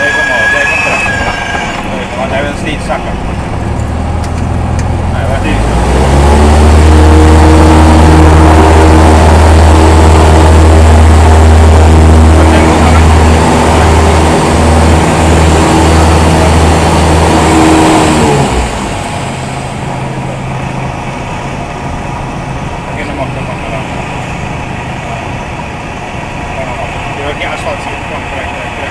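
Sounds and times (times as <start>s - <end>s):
aircraft engine drone in cockpit: 0.0s - 28.9s.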